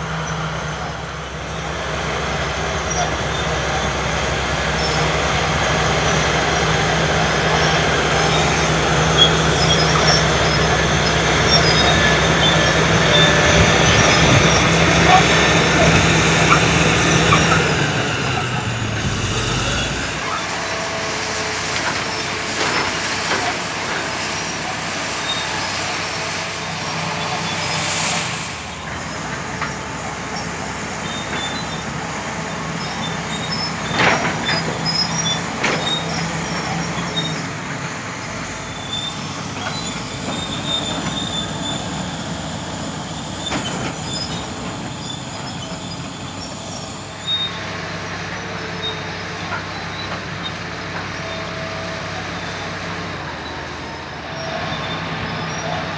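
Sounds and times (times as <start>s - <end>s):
diesel engine running: 0.0s - 55.9s
steel tracks squealing and clanking: 0.0s - 55.9s.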